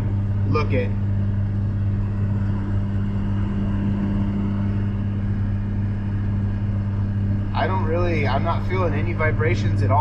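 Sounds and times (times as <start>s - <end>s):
low engine drone: 0.0s - 10.0s.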